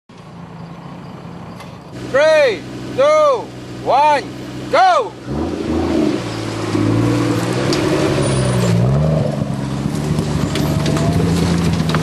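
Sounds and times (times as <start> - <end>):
off-road vehicle engine accelerating: 1.9 - 12.0.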